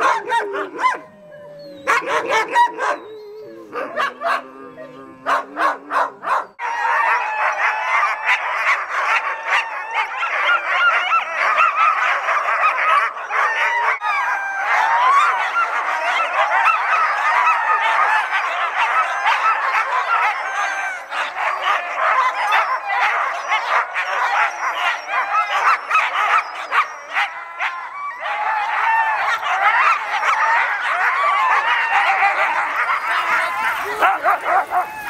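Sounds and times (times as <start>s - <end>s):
dogs barking and howling: 0.0s - 35.0s.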